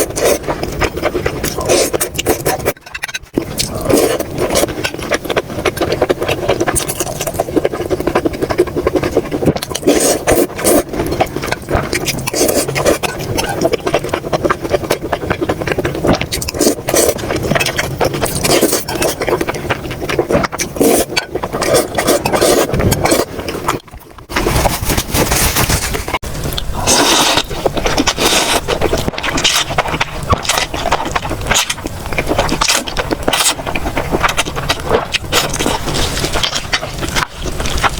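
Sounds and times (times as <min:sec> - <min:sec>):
chewing and mouth smacks: 0:00.0 - 0:24.4, 0:26.5 - 0:37.9.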